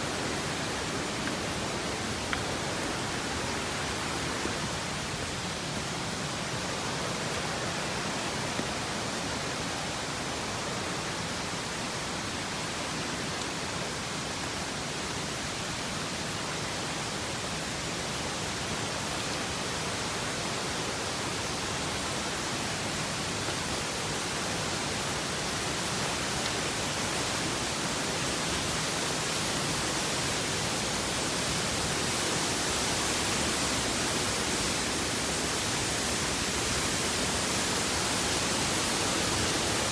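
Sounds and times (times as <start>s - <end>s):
waterfall rushing: 0.0s - 11.6s, 17.8s - 39.9s.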